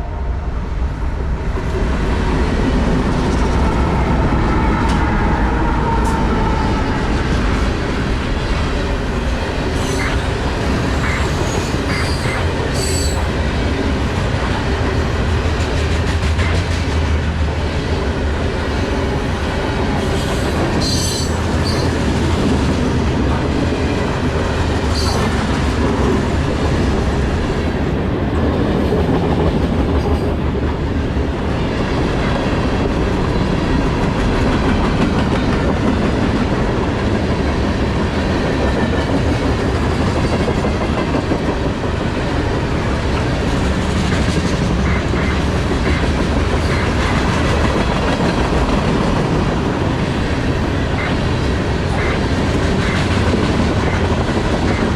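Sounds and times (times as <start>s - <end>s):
freight train rumbling past: 0.0s - 54.9s.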